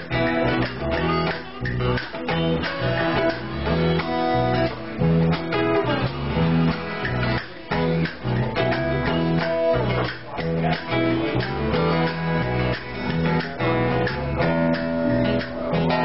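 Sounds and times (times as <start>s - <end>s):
guitars strumming chords: 0.0s - 16.0s.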